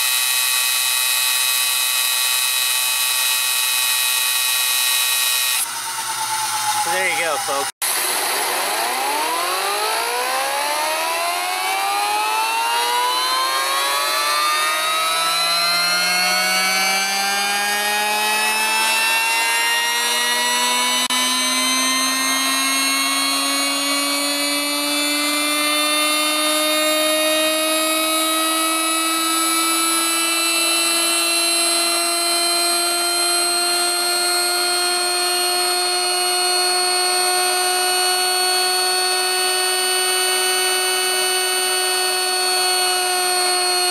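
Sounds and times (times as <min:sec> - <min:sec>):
air motor whine: 0:00.0 - 0:43.9.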